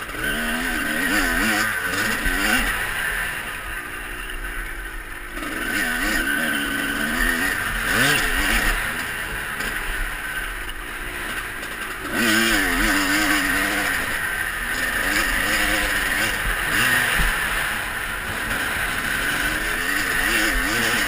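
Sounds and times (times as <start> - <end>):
motocross engines revving: 0.0 - 21.0.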